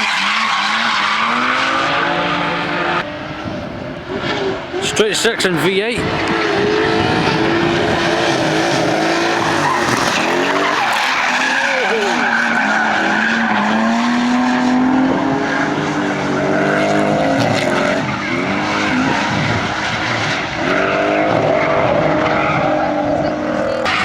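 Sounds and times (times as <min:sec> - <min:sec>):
tyres squealing and skidding: 0:00.0 - 0:03.1, 0:04.4 - 0:24.0
car engines revving: 0:00.0 - 0:24.0.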